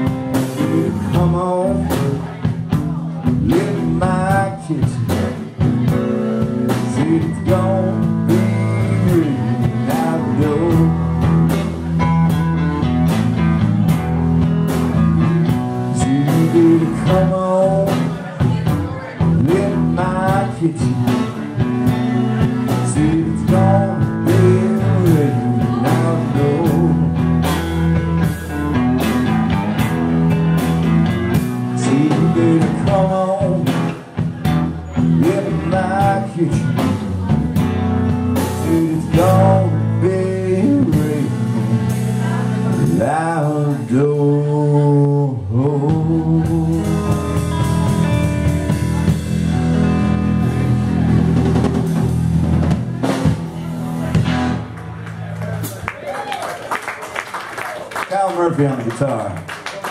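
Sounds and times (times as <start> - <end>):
man singing: 0.0 - 13.1, 14.9 - 50.6
drum kit with cymbals: 0.0 - 44.0, 45.9 - 54.6
electric guitar: 0.0 - 59.9.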